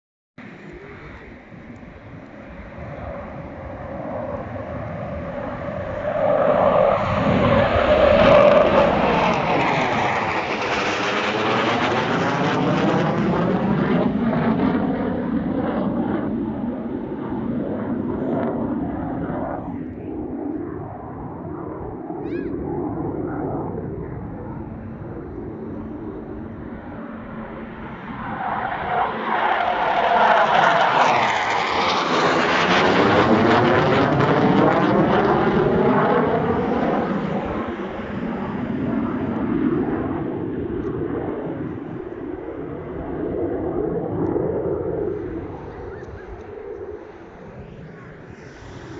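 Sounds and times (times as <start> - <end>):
jet engines roaring: 0.4 - 48.9.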